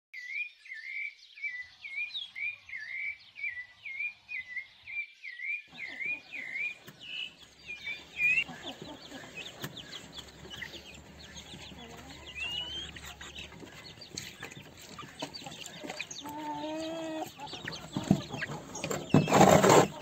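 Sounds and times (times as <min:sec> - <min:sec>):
bird chirping call: 0:00.2 - 0:20.0
outdoor background noise: 0:00.2 - 0:20.0.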